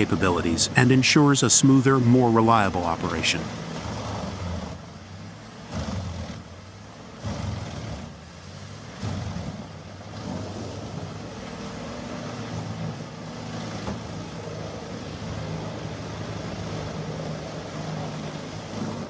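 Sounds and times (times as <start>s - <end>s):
tree shredder diesel engine running: 0.0s - 19.0s.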